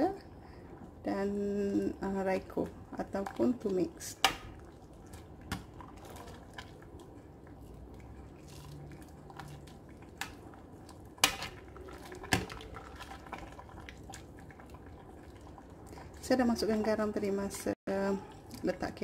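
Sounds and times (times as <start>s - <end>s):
broth trickling into pot: 0.0s - 19.0s.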